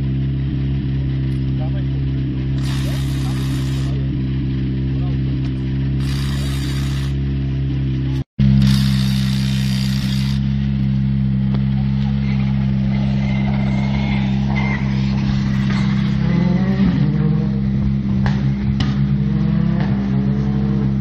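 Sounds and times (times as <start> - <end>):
rally car engine idling: 0.0 - 21.0
rally car engine revving: 0.0 - 21.0.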